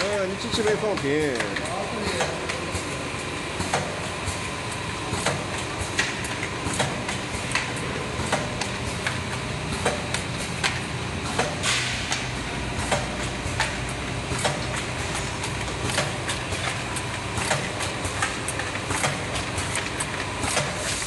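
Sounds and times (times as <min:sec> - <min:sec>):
machine mechanical hum: 0:00.0 - 0:21.0.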